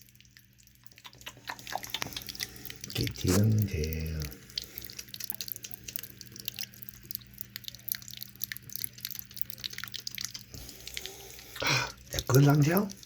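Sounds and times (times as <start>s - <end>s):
cat lapping water: 0.0s - 13.0s
water dripping from faucet: 0.0s - 13.0s.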